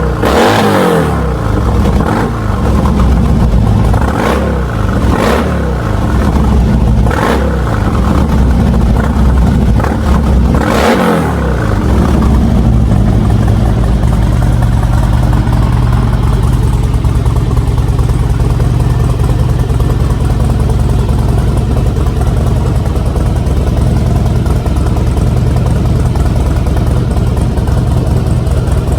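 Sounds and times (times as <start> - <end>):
motorcycle engine revving and idling: 0.0 - 28.9.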